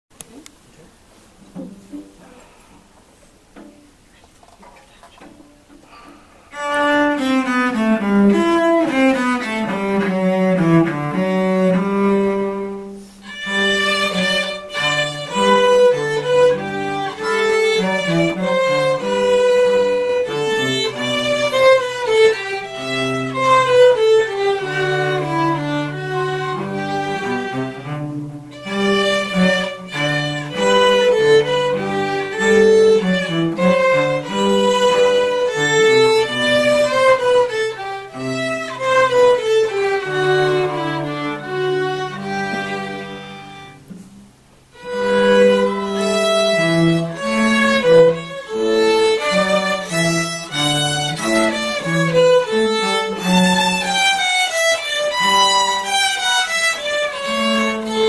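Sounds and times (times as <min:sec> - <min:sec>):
violins playing melody: 0:06.4 - 0:44.1, 0:44.7 - 0:58.0
cello bass line: 0:06.6 - 0:58.0.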